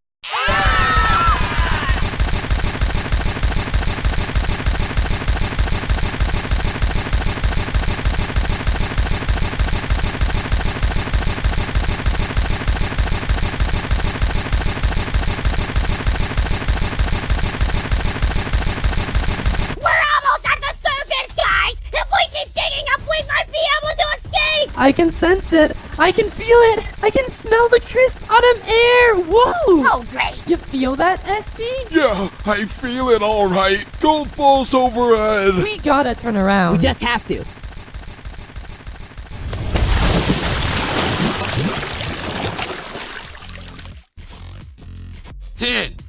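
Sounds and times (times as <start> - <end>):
glitching audio snippet repeating: 0.5 - 19.8, 24.7 - 44.0.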